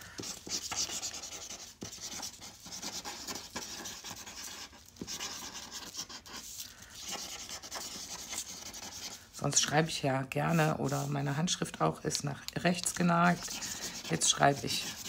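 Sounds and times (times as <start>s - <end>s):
marker scratching on paper: 0.1s - 11.6s, 13.1s - 15.0s.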